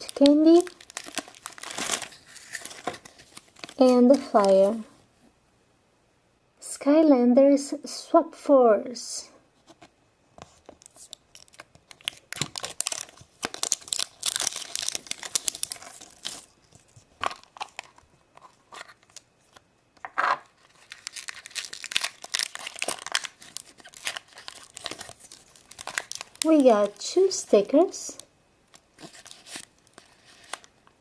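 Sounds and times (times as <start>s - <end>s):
plastic wrapping crinkling: 0.0s - 4.8s, 10.5s - 31.0s.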